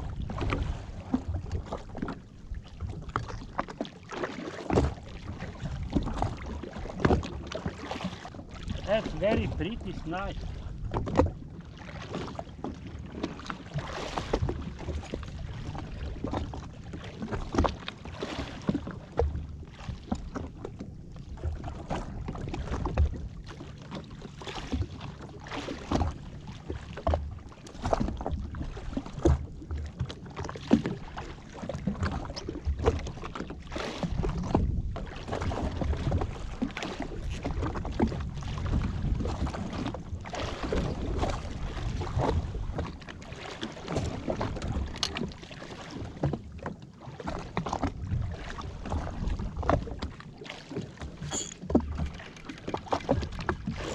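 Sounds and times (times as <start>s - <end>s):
water splashing against hull: 0.0s - 53.9s.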